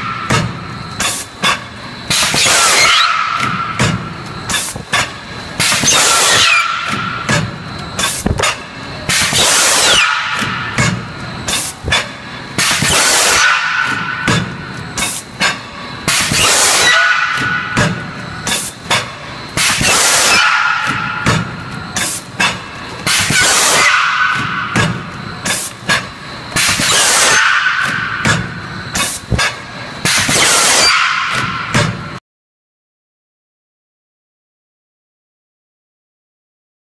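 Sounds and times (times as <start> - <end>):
machine air hiss: 0.0 - 32.2.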